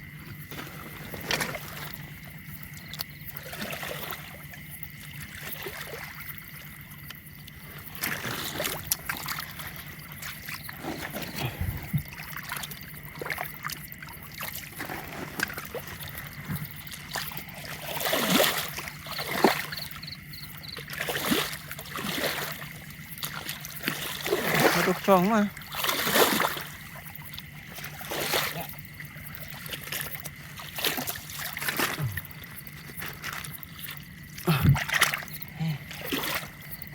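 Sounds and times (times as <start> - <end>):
water splashing and trickling: 0.0 - 36.9.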